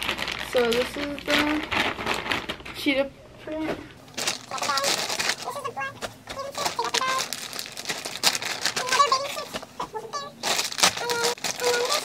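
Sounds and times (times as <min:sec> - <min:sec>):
plastic bags crinkling: 0:00.0 - 0:02.9, 0:04.0 - 0:12.0.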